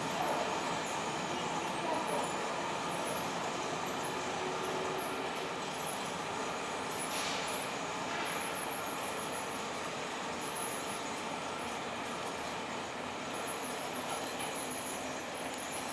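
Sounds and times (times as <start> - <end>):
train wheels rolling on rail: 0.0 - 15.9.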